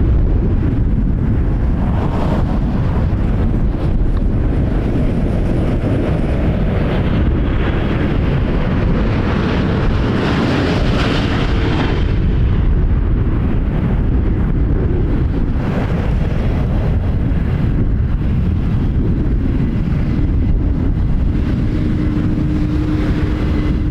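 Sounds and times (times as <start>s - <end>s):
jet engine noise: 0.0s - 23.9s
wind buffeting microphone: 0.0s - 23.9s.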